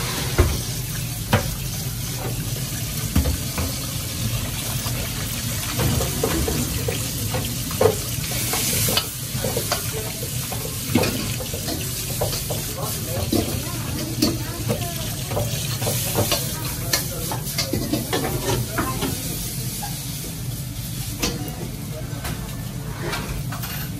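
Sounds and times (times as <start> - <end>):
frying sizzle: 0.0 - 23.9
low gas flame rumble: 0.0 - 23.9.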